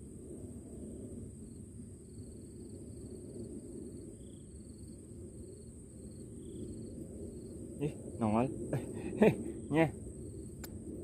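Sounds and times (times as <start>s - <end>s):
insects calling: 0.0s - 10.9s.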